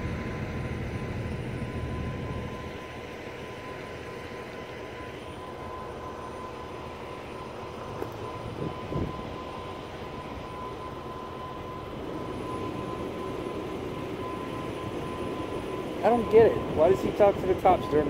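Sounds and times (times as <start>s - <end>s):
thin steady whine: 0.0s - 18.0s
vehicle engines rumbling: 0.0s - 18.0s.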